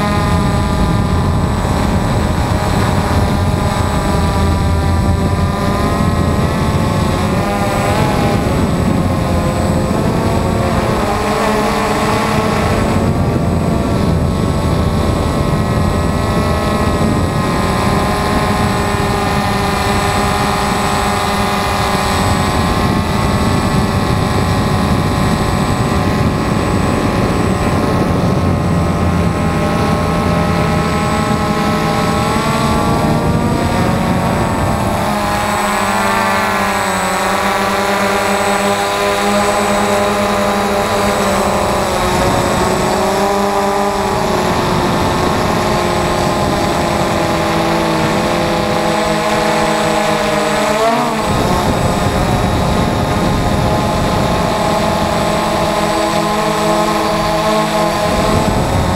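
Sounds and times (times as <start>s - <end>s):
drone motors whining: 0.0s - 58.9s.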